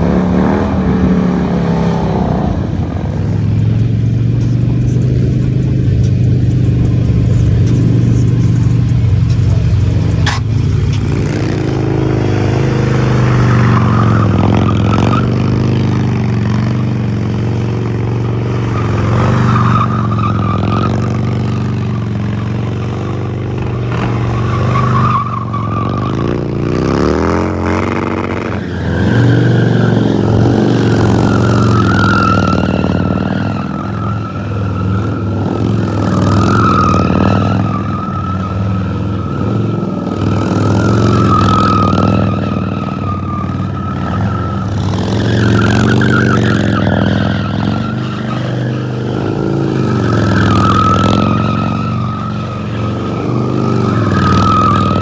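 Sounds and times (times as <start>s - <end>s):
motorcycle engines revving high: 0.0s - 55.0s.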